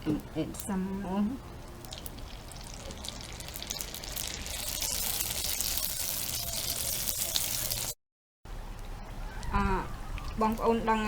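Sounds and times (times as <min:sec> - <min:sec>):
food deep-frying in hot oil: 0:00.0 - 0:08.0, 0:08.6 - 0:11.0.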